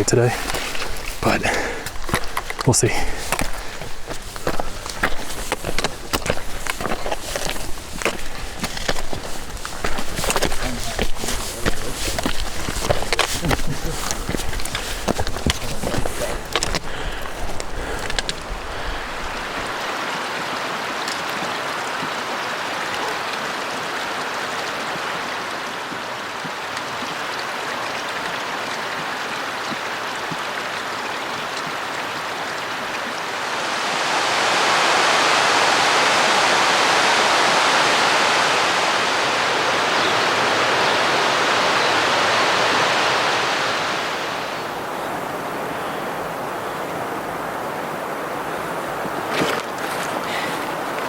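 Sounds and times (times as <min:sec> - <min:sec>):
stream rushing over rocks: 0:00.0 - 0:51.0.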